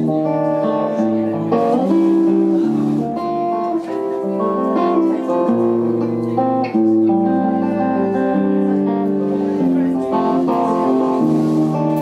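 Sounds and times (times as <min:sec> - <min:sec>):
electric guitar playing chords: 0:00.0 - 0:12.0.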